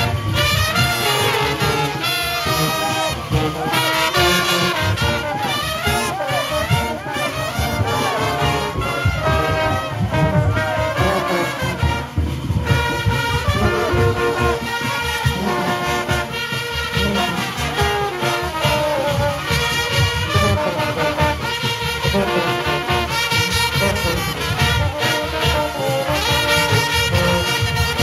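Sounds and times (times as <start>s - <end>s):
brass horns playing melody: 0.0s - 28.0s
driving drum beat: 0.0s - 28.0s.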